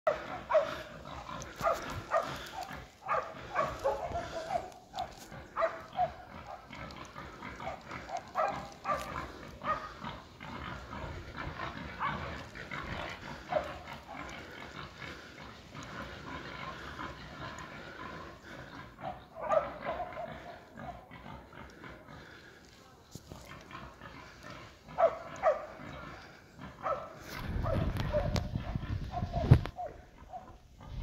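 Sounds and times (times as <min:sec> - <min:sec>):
hunting dogs barking and yelping: 0:00.0 - 0:31.0.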